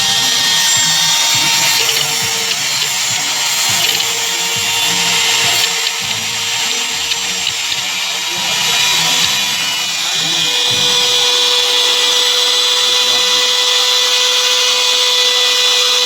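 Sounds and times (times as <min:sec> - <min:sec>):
electric power tool whining: 0:00.0 - 0:16.0.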